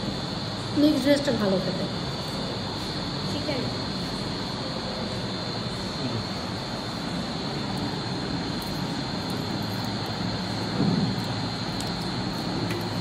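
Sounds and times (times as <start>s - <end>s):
crickets chirring: 0.0s - 13.0s
rushing room noise: 0.0s - 13.0s.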